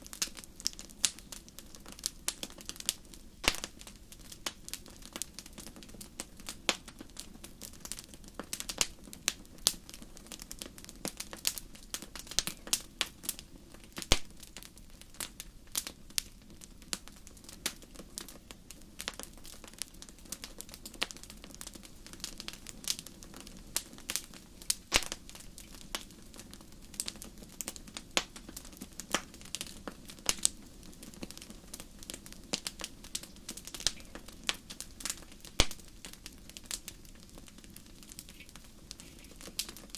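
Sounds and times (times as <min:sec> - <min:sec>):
hiss of burning fire: 0:00.0 - 0:39.9
wood fire crackling and popping: 0:00.0 - 0:39.9.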